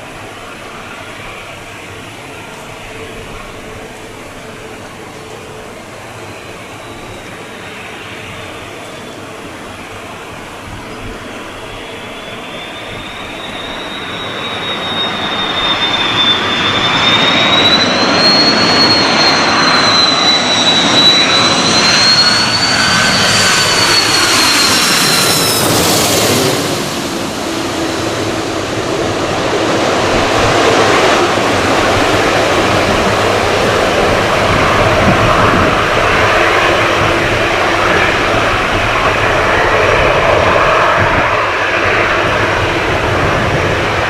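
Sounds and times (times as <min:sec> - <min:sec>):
jet airliner passing: 0:00.0 - 0:44.0.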